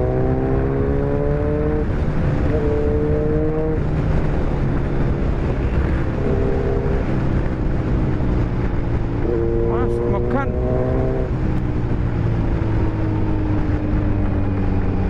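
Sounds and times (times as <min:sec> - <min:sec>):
motorcycle engine running: 0:00.0 - 0:15.0
wind and road rumble: 0:00.0 - 0:15.0.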